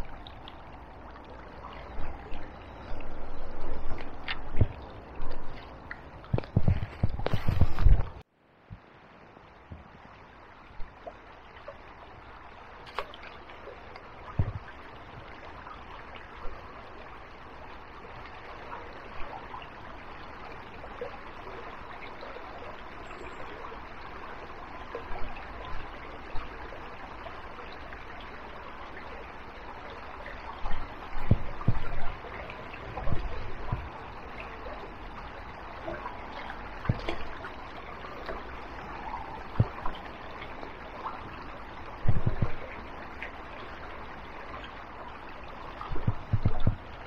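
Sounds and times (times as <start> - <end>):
river water flowing: 0.0 - 47.0.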